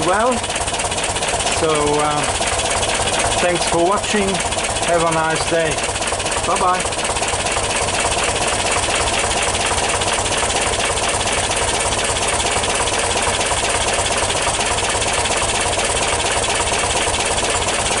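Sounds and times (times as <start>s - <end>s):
van engine idling: 0.0s - 18.0s.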